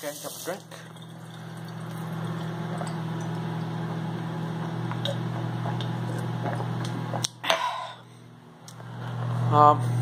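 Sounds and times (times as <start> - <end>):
microwave oven humming: 0.0 - 10.0.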